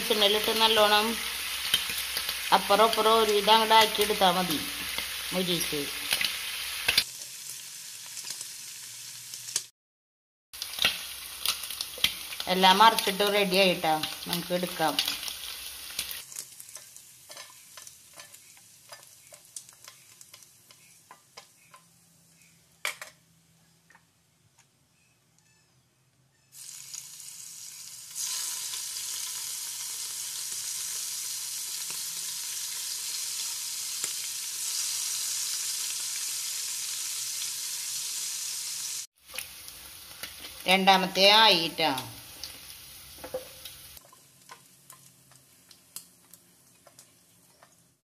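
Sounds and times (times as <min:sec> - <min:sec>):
crackling pops of frying: 0:00.0 - 0:09.7, 0:10.6 - 0:22.0, 0:22.8 - 0:23.2, 0:26.6 - 0:48.0
steady sizzle: 0:00.0 - 0:09.7, 0:10.5 - 0:23.1, 0:26.5 - 0:48.0.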